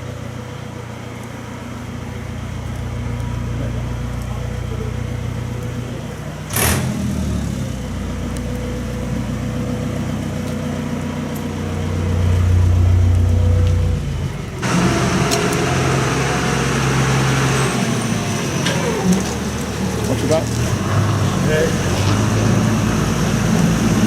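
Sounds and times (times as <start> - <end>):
tractor engines running: 0.0 - 24.0.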